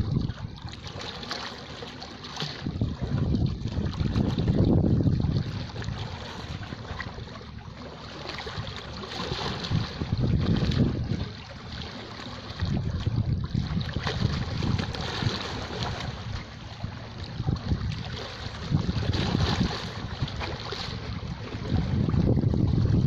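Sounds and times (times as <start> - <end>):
wind rumbling on microphone: 0.0 - 0.8, 2.4 - 7.7, 8.3 - 23.0
sea waves washing: 0.0 - 23.0.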